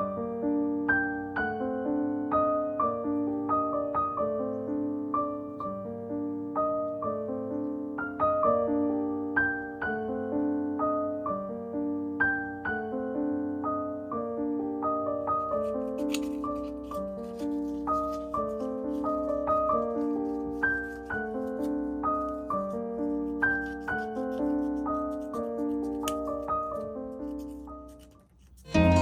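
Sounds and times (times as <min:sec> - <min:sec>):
gentle piano melody: 0:00.0 - 0:29.0.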